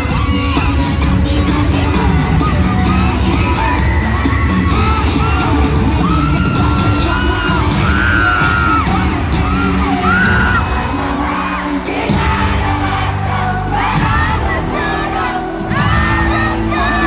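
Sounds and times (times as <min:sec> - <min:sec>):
crowd cheering: 0:00.0 - 0:17.0
live pop music with singing: 0:00.0 - 0:17.0.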